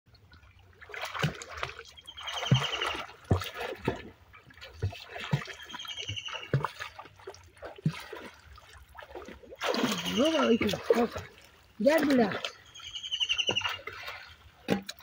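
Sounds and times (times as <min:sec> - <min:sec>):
water splashing from swimmers: 0:00.2 - 0:15.0.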